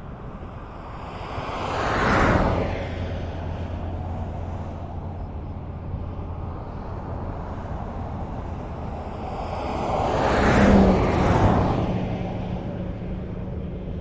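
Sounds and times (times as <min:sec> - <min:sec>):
highway traffic rumble: 0:00.0 - 0:14.0.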